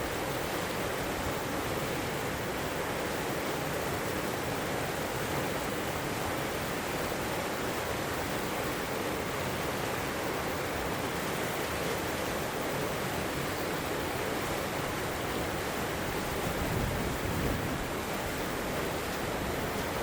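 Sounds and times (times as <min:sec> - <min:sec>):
river flowing over rocks: 0:00.0 - 0:20.0.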